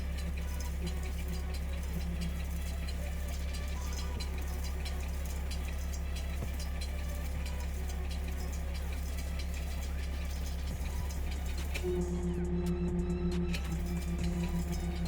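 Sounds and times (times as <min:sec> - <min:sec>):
skid steer engine humming: 0:00.0 - 0:15.0.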